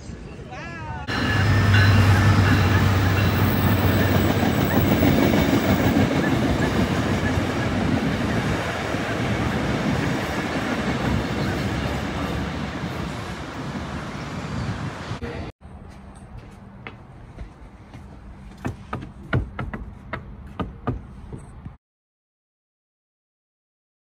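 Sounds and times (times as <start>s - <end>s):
train rumbling along track: 1.0s - 21.5s.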